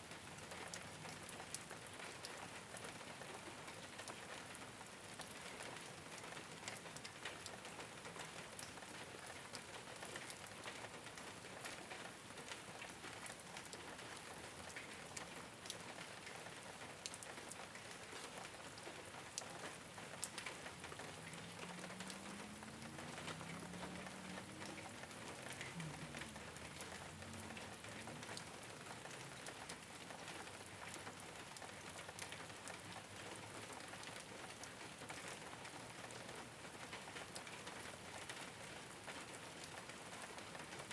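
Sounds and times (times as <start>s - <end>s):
rain on a rooftop: 0.0s - 40.9s.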